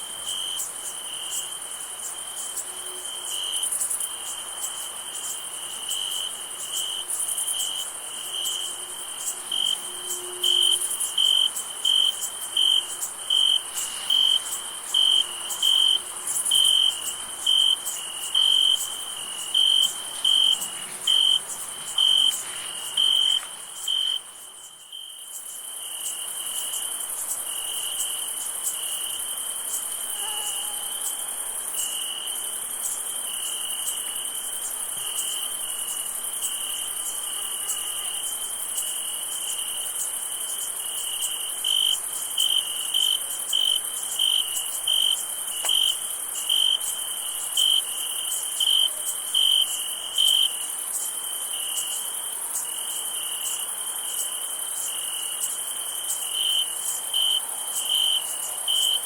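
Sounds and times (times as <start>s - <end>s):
crickets trilling: 0.0s - 59.0s
high insect hiss: 0.0s - 59.0s
nearby cricket chirping: 0.0s - 59.0s.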